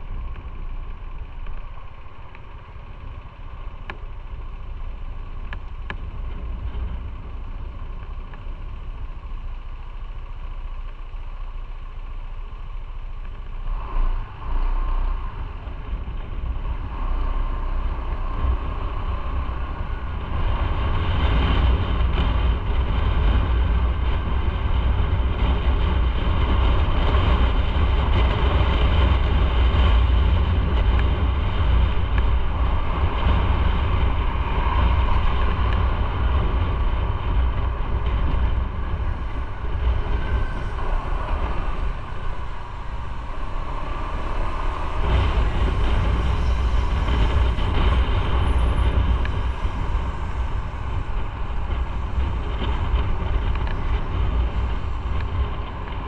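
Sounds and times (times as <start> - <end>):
motorcycle engine running: 0.0 - 56.0
wind noise rumble: 0.0 - 56.0.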